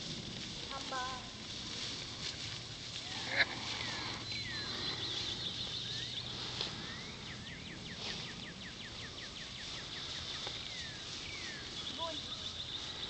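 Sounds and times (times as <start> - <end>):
faint outdoor background: 0.0 - 13.0
songbirds singing: 2.1 - 13.0.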